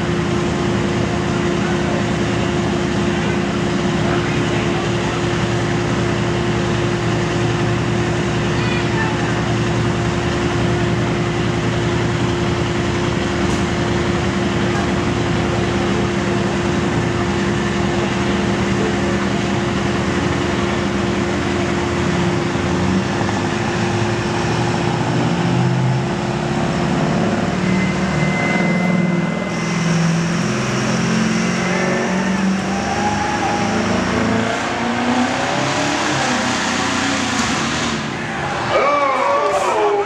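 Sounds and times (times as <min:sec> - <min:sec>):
diesel truck engine under load: 0:00.0 - 0:40.0.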